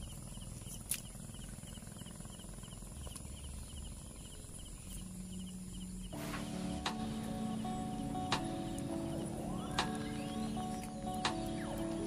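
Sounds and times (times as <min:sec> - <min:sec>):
insects buzzing and chirping: 0:00.0 - 0:12.0
low rumble: 0:01.3 - 0:12.0.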